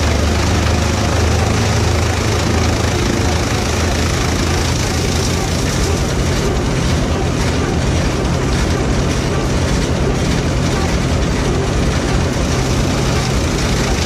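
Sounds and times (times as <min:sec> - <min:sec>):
chopper blower rushing: 0:00.0 - 0:14.0
tractor engine running: 0:00.0 - 0:14.0.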